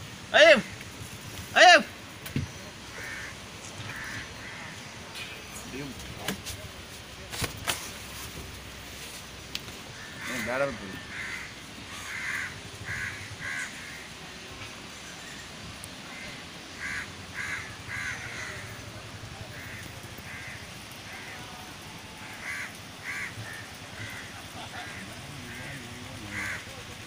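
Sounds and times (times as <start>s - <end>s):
bird calling: 0.3s - 6.4s, 9.9s - 27.0s.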